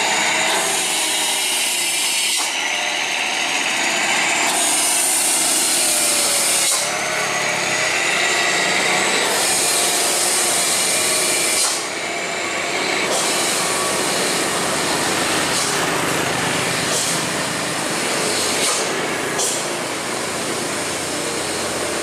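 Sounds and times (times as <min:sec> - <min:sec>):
truck diesel engine and tyres: 0:00.0 - 0:22.0.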